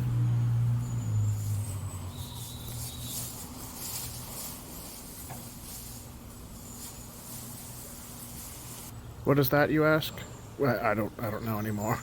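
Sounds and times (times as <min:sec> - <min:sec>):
steady low hum: 0:00.0 - 0:12.0
high pulsing hiss: 0:00.6 - 0:12.0.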